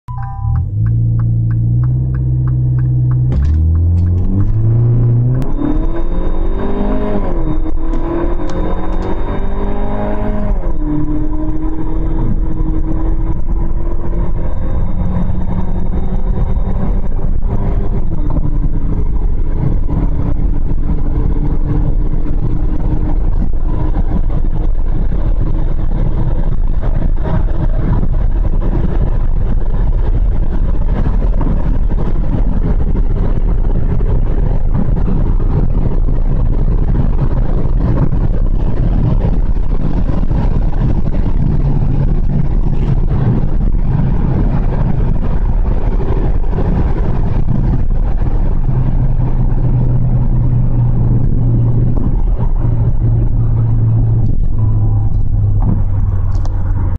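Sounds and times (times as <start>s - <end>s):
car engine accelerating: 0.1s - 56.9s
road and wind noise: 0.1s - 56.9s.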